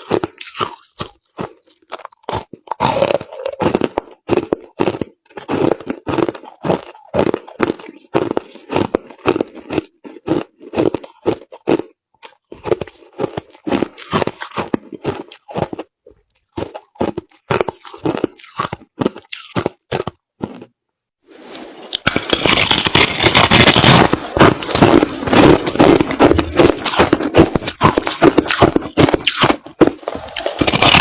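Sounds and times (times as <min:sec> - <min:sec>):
crushed ice being chewed: 0:00.0 - 0:20.8, 0:21.4 - 0:31.0.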